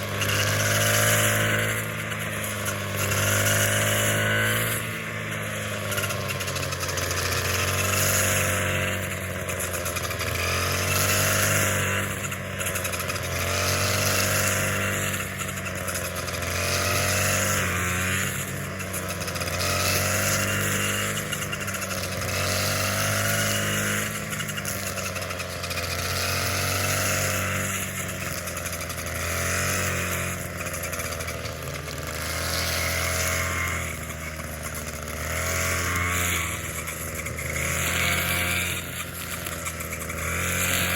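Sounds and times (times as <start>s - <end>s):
small petrol engine running: 0.0s - 40.9s.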